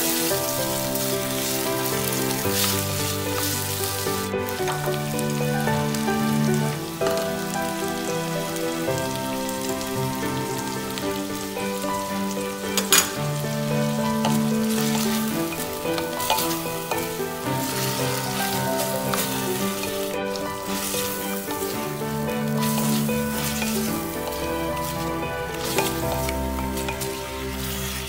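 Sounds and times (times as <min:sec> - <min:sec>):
background music of held notes: 0:00.0 - 0:28.0
food sizzling in a pot: 0:00.0 - 0:28.0.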